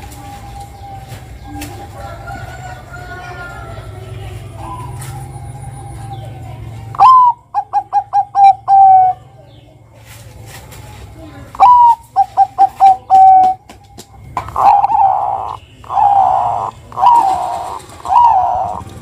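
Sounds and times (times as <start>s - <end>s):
dove cooing: 0.0s - 9.4s, 11.5s - 13.6s, 14.2s - 19.0s.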